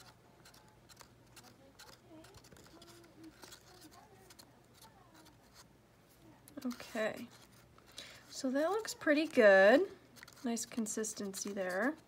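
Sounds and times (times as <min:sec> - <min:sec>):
wooden stick scraping paper cup: 0:00.0 - 0:05.7, 0:06.5 - 0:12.0
faint background voices: 0:00.0 - 0:12.0.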